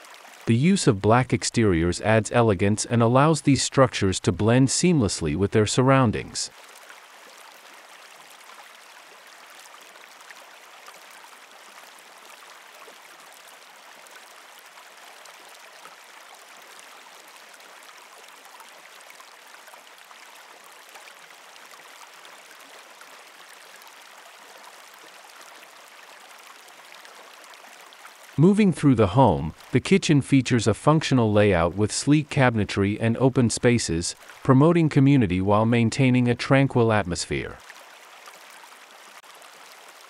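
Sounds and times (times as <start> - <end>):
flowing water rushing: 0.0 - 40.0.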